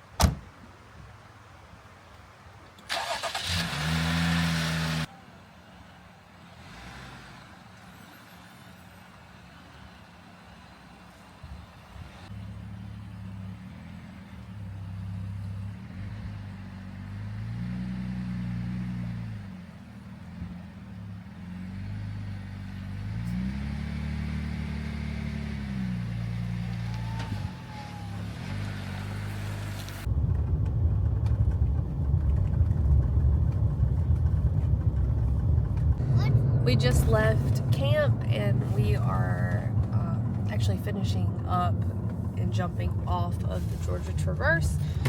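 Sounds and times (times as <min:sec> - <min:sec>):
vehicle engine driving: 0:03.0 - 0:45.0.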